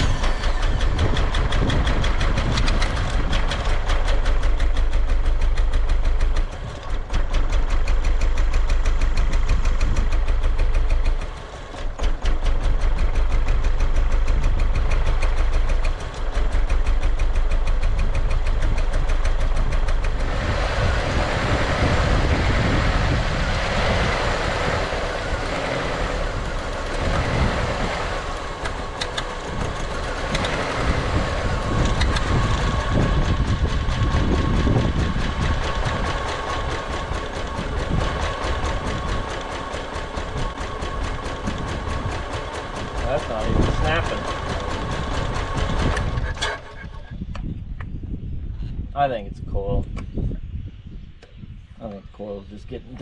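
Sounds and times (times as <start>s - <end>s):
engine idling roughly: 0.0s - 47.1s.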